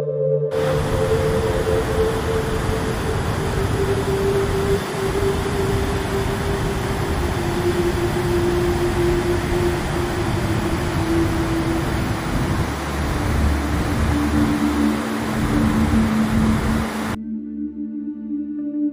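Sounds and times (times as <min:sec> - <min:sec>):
held music tone: 0:00.0 - 0:18.1
waterfall roaring: 0:00.5 - 0:17.2.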